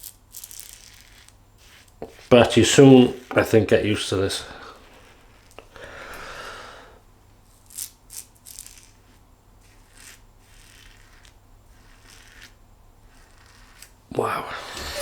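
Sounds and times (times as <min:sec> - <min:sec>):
razor scraping stubble: 0:00.0 - 0:06.3, 0:07.5 - 0:15.0.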